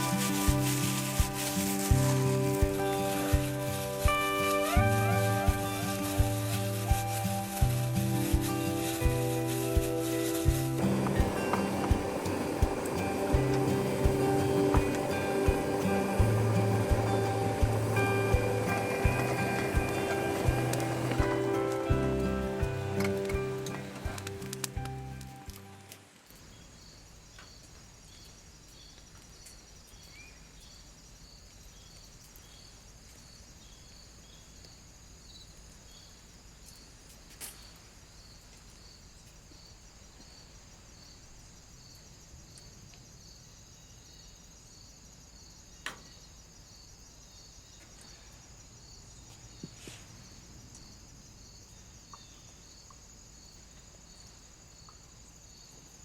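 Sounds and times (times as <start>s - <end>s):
crickets chirping: 0.0s - 56.0s
high insect hiss: 0.0s - 56.0s.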